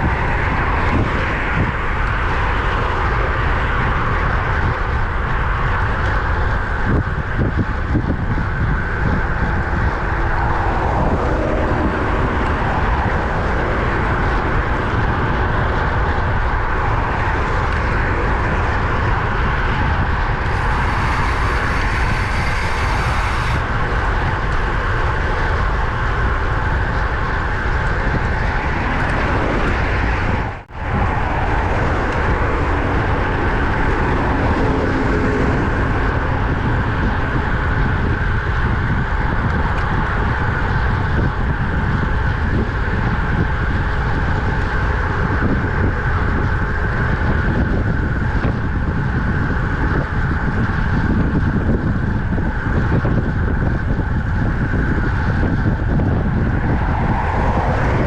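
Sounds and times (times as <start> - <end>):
road traffic hum: 0.0 - 58.0
wind rushing over microphone: 0.0 - 58.0.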